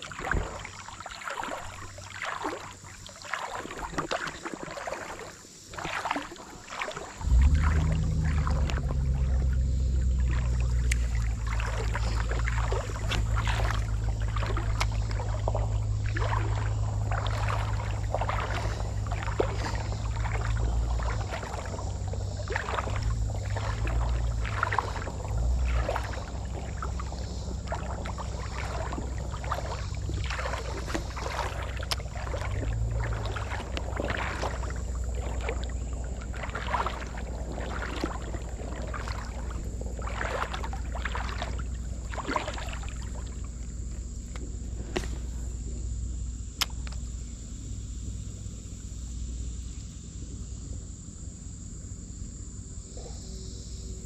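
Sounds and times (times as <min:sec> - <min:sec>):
river water splashing: 0:00.0 - 0:49.8
steady low rumble: 0:07.1 - 0:54.0.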